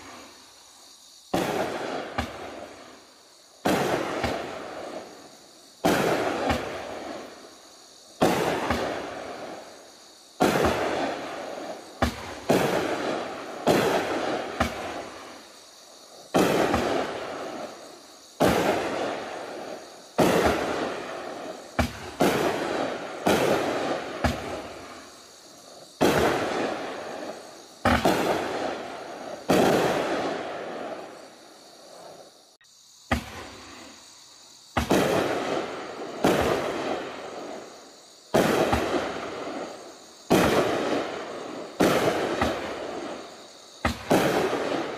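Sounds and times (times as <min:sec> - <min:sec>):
crackling hiss: 0:00.0 - 0:44.9
fireworks firing shots: 0:01.3 - 0:32.2, 0:33.0 - 0:34.0, 0:34.7 - 0:44.9.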